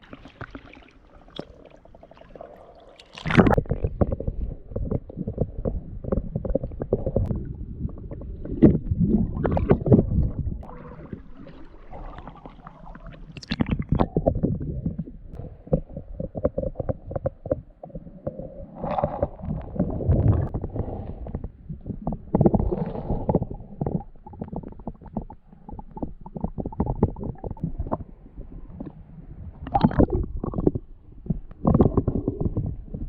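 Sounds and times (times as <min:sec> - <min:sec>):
muffled water sloshing and gurgling: 0:00.0 - 0:33.0
water splashing and crackling: 0:00.0 - 0:33.0.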